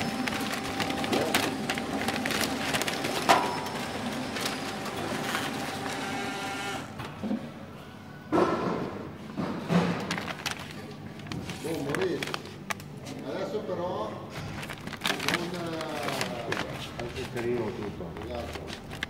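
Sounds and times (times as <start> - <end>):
packaging machine hum: 0.0 - 7.8, 9.3 - 13.0, 14.4 - 19.0.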